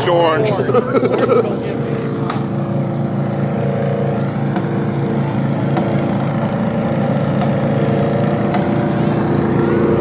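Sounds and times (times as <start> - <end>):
lawn mower engines running: 0.0 - 10.0.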